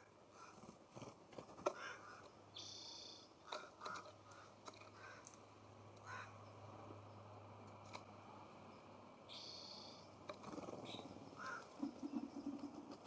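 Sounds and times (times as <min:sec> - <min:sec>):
birds chirping: 0:01.4 - 0:05.4, 0:06.0 - 0:13.0.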